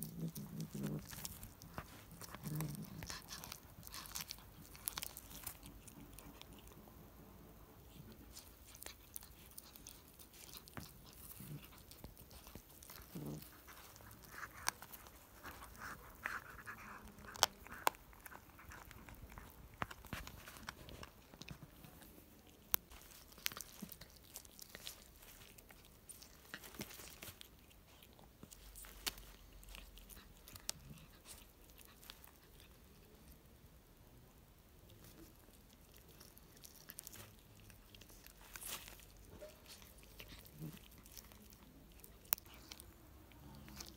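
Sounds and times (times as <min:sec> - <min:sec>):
cat chewing: 0:00.0 - 0:43.9.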